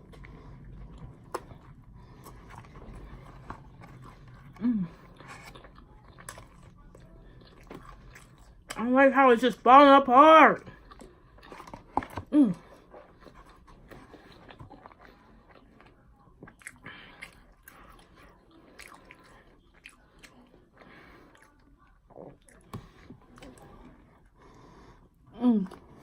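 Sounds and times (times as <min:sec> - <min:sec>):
chewing and biting food: 0:00.0 - 0:08.8, 0:10.6 - 0:24.3.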